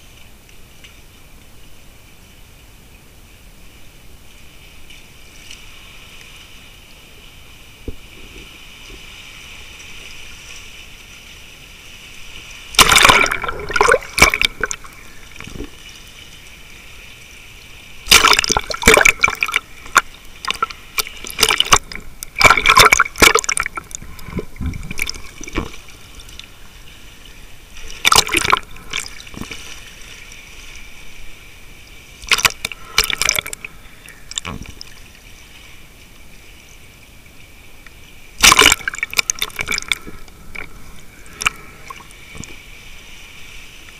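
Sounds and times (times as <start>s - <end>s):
muffled hiss: 0.0s - 43.9s
sea water sloshing and bubbling: 3.6s - 43.9s.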